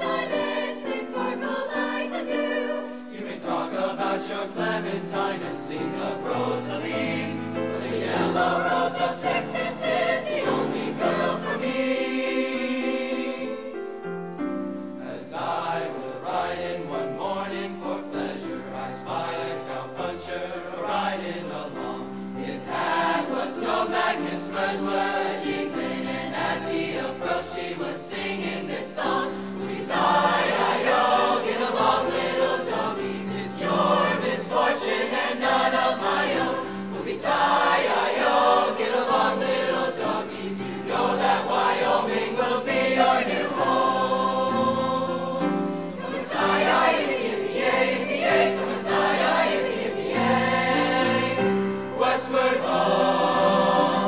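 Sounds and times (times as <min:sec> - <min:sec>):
choir singing: 0:00.0 - 0:54.0
piano accompaniment: 0:00.0 - 0:54.0.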